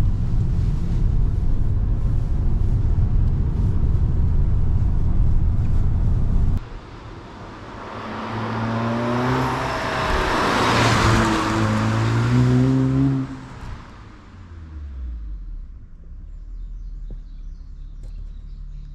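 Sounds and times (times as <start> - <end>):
car engine and exhaust passing: 0.0 - 18.9.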